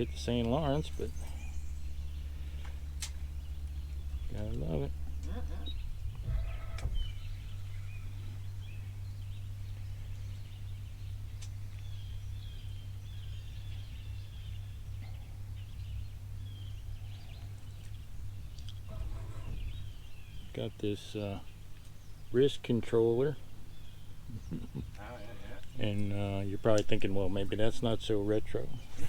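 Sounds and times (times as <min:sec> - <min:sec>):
birds chirping and trilling: 0:00.0 - 0:29.0
steady low hum: 0:00.0 - 0:29.0.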